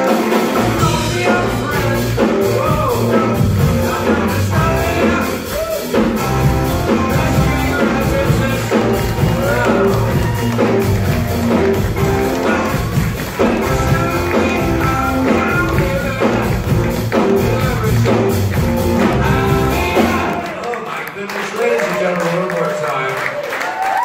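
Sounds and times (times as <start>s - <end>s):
steady drum beat: 0.0s - 20.6s
live rock band playing: 0.0s - 20.8s.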